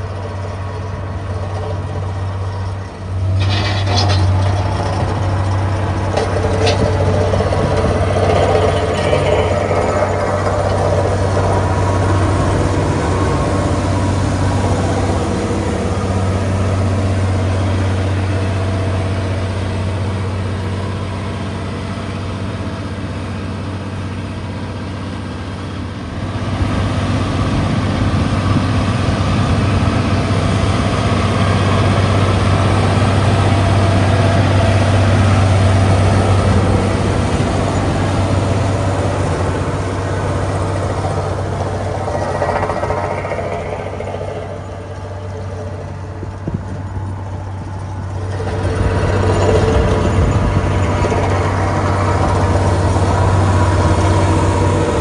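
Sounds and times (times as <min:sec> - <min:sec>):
heavy diesel engine humming: 0:00.0 - 0:55.0.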